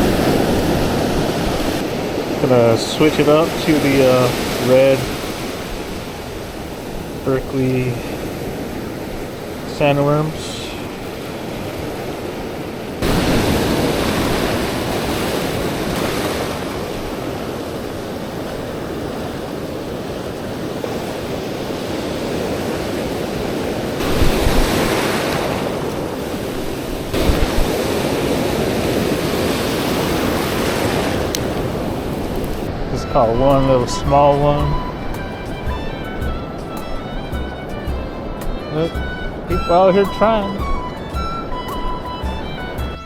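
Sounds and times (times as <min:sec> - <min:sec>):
ocean surf breaking: 0:00.0 - 0:43.0
wind buffeting microphone: 0:00.0 - 0:43.0.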